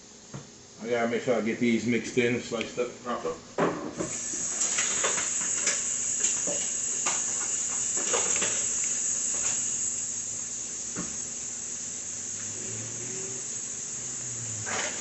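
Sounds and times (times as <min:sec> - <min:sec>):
steady high-pitched hiss: 0:00.0 - 0:15.0.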